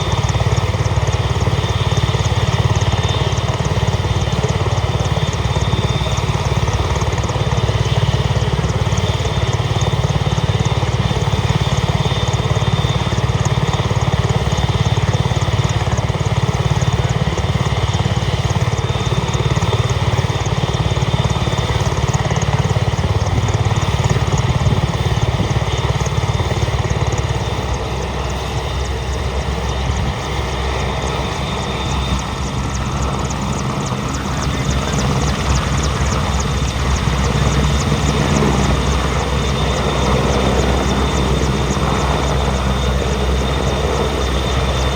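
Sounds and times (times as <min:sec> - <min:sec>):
helicopter rotor and turbines: 0:00.0 - 0:44.9.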